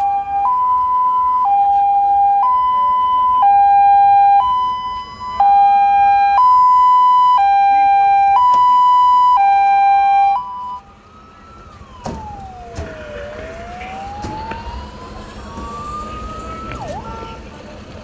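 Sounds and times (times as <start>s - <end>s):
two-tone hi-lo siren: 0.0s - 17.4s
wailing siren: 0.0s - 17.5s.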